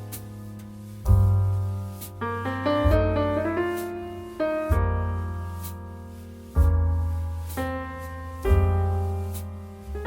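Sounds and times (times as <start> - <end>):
piano instrumental music: 0.0 - 10.0.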